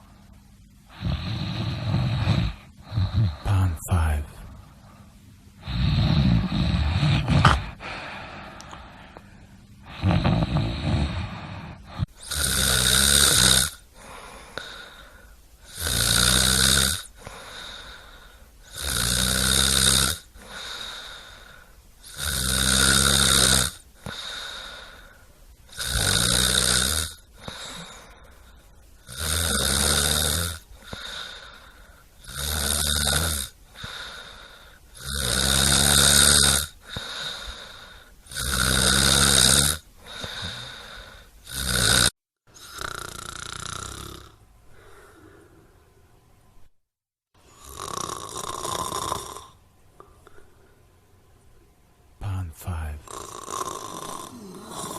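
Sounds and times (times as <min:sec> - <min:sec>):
person snoring: 0:00.9 - 0:04.4, 0:05.6 - 0:09.2, 0:09.8 - 0:28.3, 0:29.0 - 0:45.7, 0:47.4 - 0:50.5, 0:52.2 - 0:54.9.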